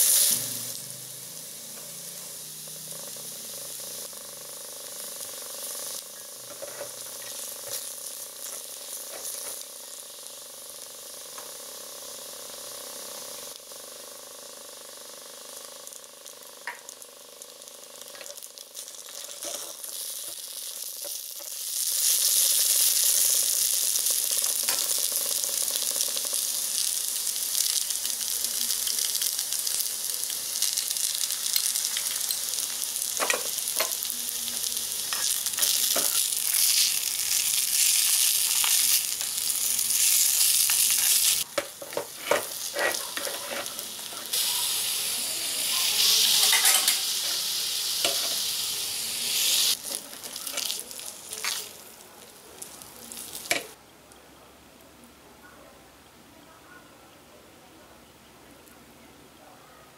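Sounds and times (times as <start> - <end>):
pasta and bacon sizzling in skillet: 0.0 - 53.8.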